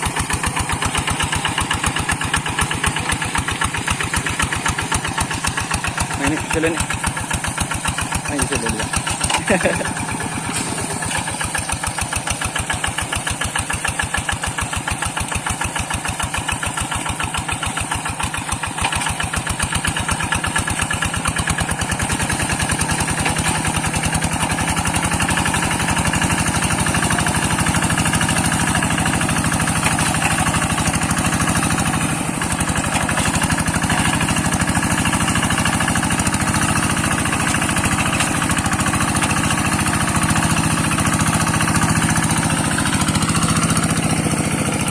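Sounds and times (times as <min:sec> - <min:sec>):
diesel tractor engine thumping: 0:00.0 - 0:44.9.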